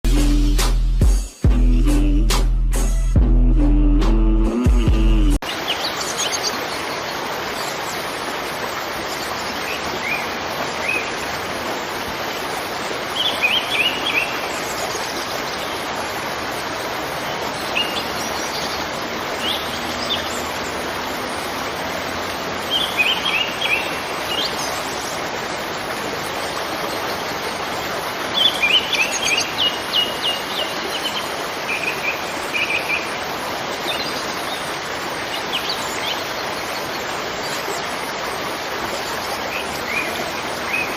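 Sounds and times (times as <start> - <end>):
waterfall rushing: 4.6 - 40.9
birds chirping: 5.4 - 40.9.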